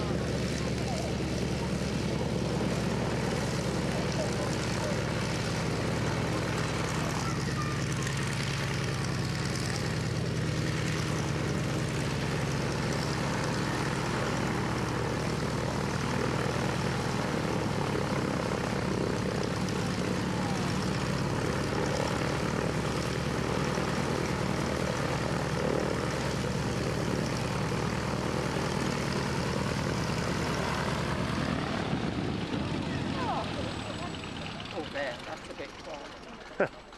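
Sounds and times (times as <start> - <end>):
biplane engine drone in flight: 0.0 - 36.9.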